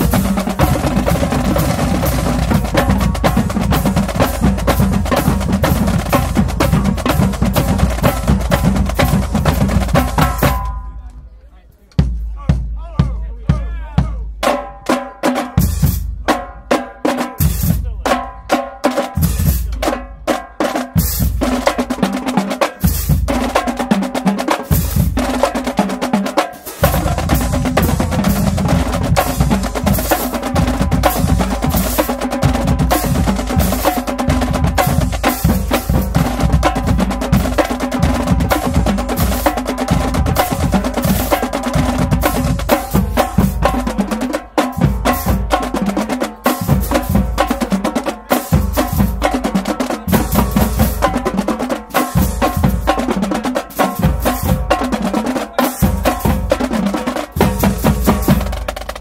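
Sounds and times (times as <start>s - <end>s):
snare drum: 0.0s - 10.8s, 14.0s - 59.0s
bass drums: 0.0s - 11.0s, 12.0s - 14.5s, 22.8s - 25.8s, 26.7s - 59.0s
marching drumline playing: 0.0s - 11.0s, 12.0s - 59.0s
tenor drums: 0.0s - 11.3s, 11.9s - 59.0s.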